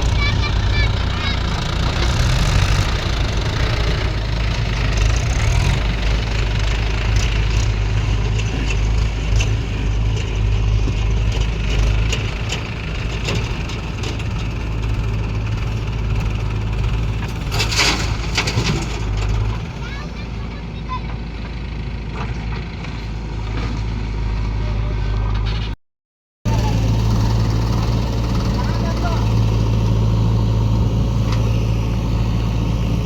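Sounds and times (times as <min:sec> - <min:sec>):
diesel engine rumbling: 0:00.0 - 0:25.8, 0:26.5 - 0:33.0.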